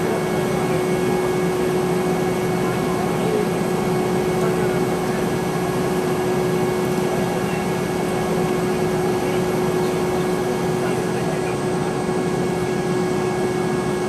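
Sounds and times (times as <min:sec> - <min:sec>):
jet engine whine: 0:00.0 - 0:14.0.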